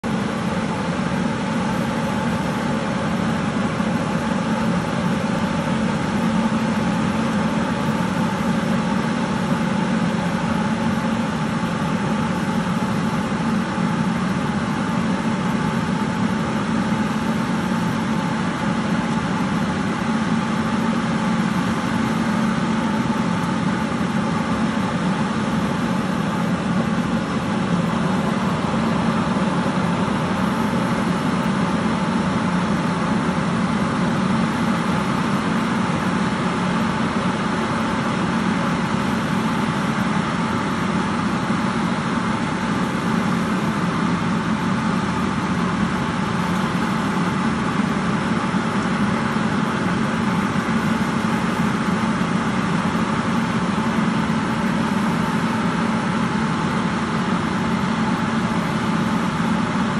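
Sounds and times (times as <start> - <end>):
fan blowing air and mist: 0.0 - 59.9
tractor engine: 0.1 - 59.9.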